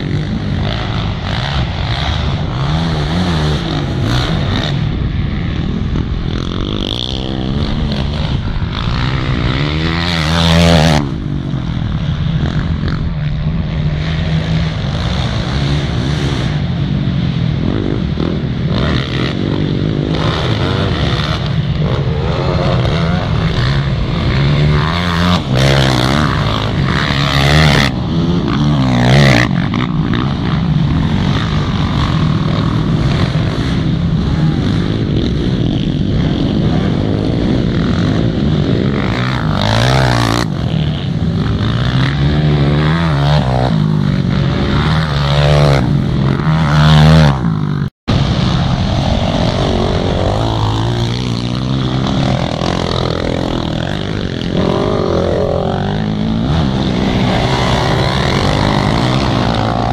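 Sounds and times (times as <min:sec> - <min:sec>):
quad bike engines revving: 0:00.0 - 0:59.9.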